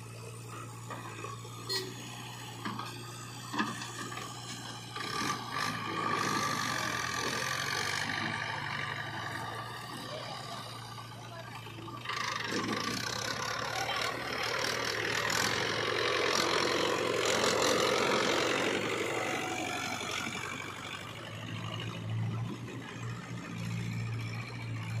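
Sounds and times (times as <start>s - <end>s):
tractor diesel engine: 0.0s - 25.0s.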